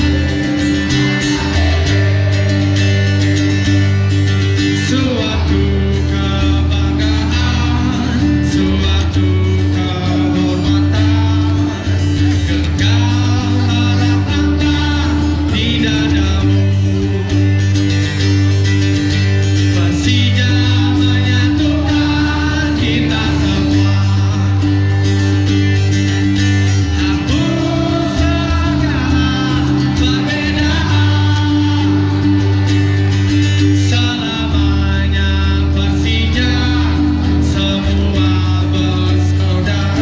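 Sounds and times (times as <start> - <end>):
acoustic guitar strumming: 0.0 - 40.0
man singing into microphone: 0.0 - 40.0.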